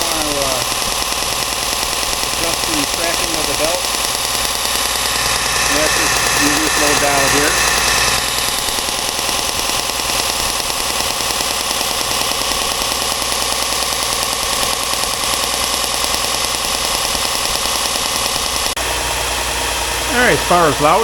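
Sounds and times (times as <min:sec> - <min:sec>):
belt sander running: 0:00.0 - 0:21.0.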